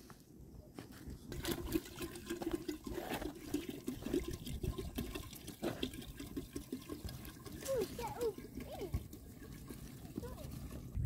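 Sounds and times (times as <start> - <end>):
water pouring into kettle: 1.3 - 11.0.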